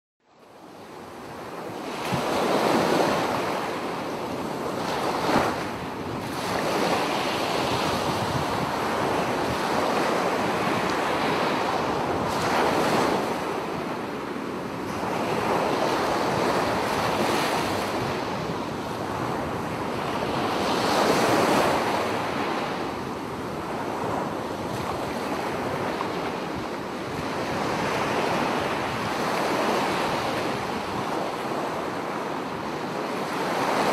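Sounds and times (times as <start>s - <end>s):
small waves breaking on beach: 0.5s - 33.9s.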